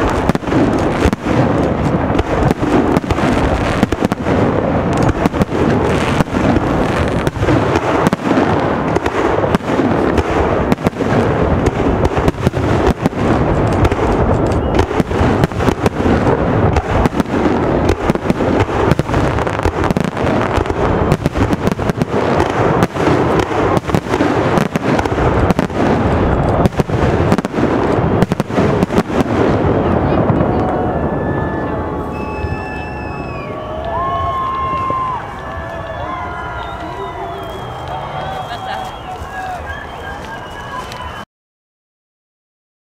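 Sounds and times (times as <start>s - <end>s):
fireworks bursting: 0.0s - 41.2s.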